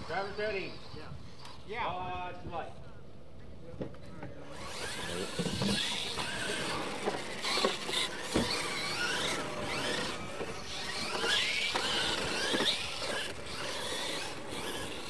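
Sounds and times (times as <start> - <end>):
electric motors whining: 0.0 - 1.8, 4.4 - 15.0.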